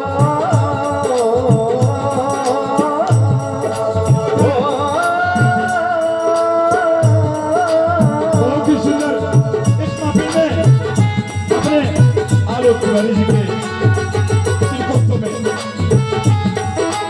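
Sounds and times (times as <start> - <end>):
hand drum beat: 0.0 - 17.0
person singing: 0.0 - 17.0
rattling percussion: 0.0 - 17.0.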